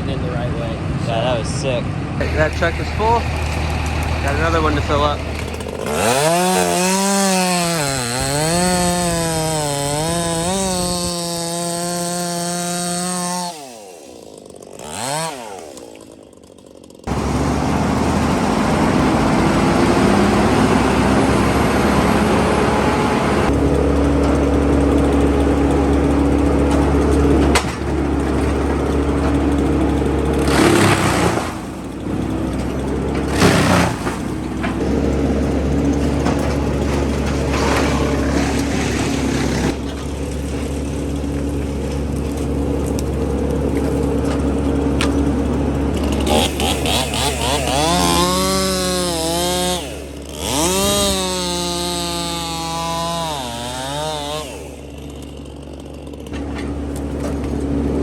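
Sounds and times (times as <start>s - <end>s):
heavy machinery engine drone: 0.0s - 13.0s, 16.9s - 58.0s
chainsaw running: 0.0s - 58.0s.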